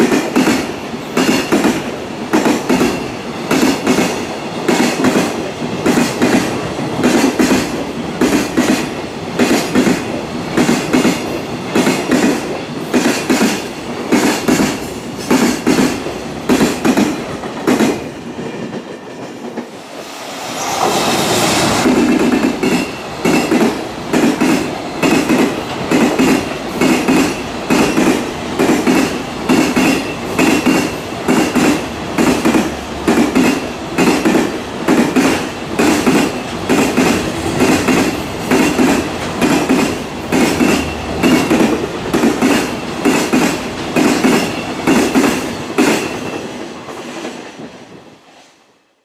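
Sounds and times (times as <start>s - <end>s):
train wheels clacking over rail joints: 0.0s - 19.8s, 20.6s - 47.8s.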